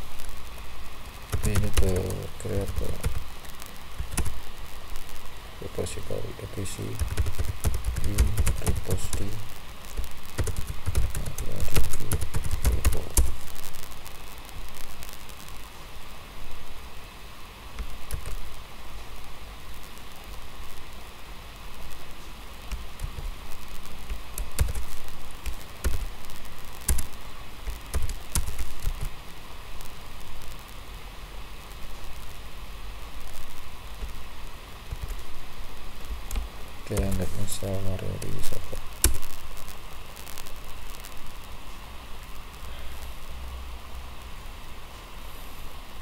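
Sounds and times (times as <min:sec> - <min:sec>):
steady background hiss: 0:00.0 - 0:46.0.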